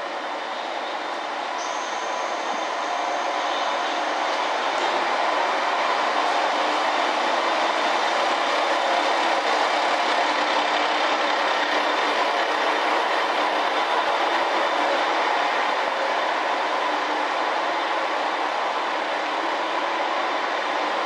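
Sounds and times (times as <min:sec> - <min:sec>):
diesel railcar engine drone: 0:00.0 - 0:21.0.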